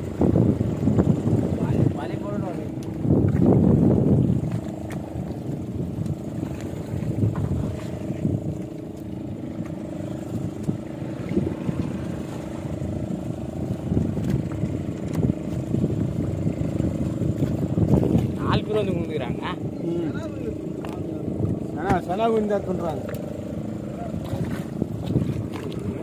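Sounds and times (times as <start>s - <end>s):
boat engine humming: 0.0s - 26.0s
low wind rumble: 0.0s - 26.0s.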